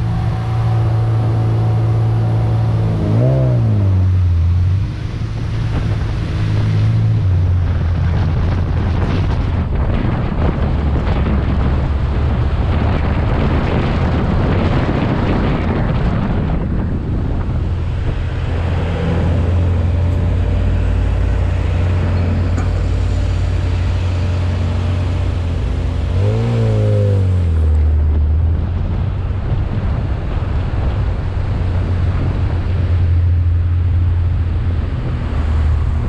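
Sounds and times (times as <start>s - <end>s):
car engine idling and revving: 0.0s - 36.0s
wind on microphone: 0.0s - 36.0s.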